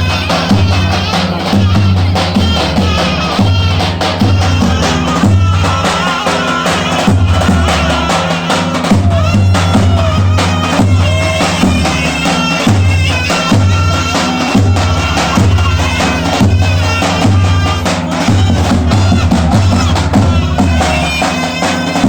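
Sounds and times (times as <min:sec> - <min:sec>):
heavy drum beat: 0:00.0 - 0:22.0.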